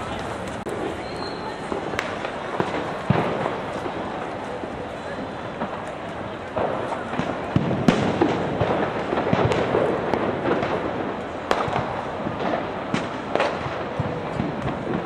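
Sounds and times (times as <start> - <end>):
city noise: 0.0 - 15.0
firecrackers banging: 0.0 - 15.0.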